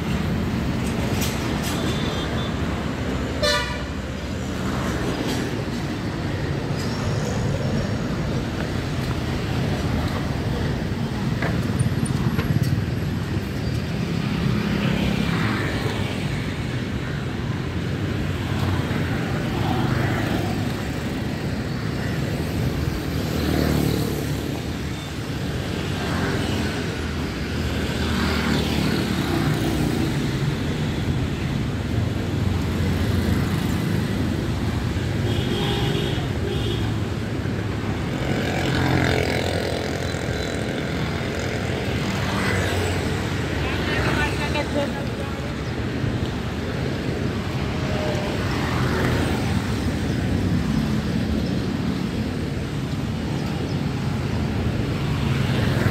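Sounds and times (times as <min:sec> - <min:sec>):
traffic hum: 0:00.0 - 0:55.9
motorcycle and scooter engines passing: 0:04.2 - 0:55.9.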